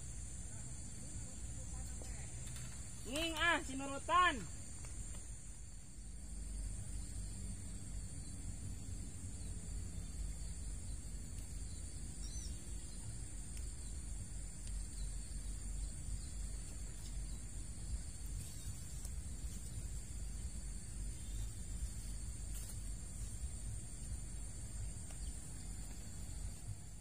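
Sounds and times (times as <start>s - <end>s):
insects chorus: 0.0s - 27.0s
low steady rumble: 0.0s - 27.0s.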